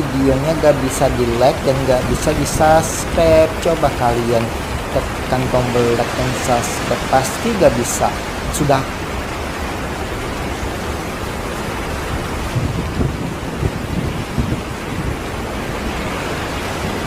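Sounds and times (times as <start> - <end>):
low rumbling wind buffets: 0.0 - 17.0
strong wind rushing: 0.0 - 17.0.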